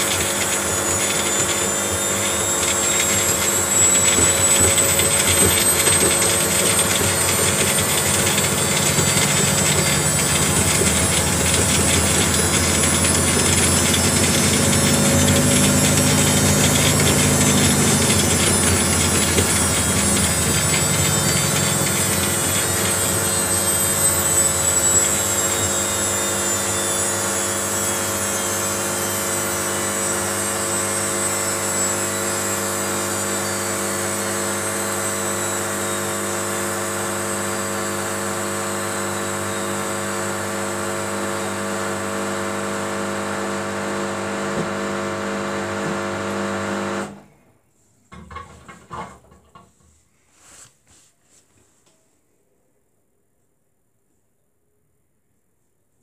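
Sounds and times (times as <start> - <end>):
washing machine spinning down: 0.0 - 47.2.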